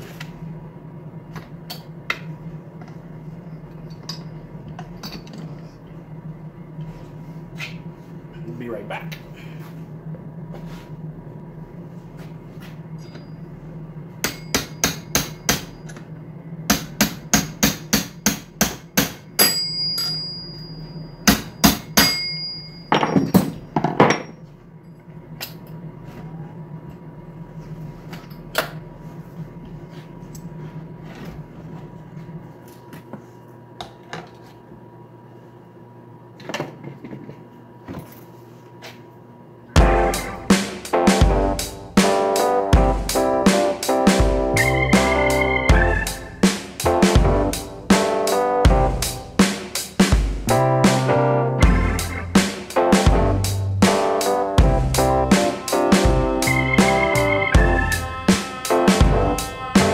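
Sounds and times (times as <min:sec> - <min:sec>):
steady low hum: 0:00.0 - 0:36.3, 0:36.9 - 0:59.9.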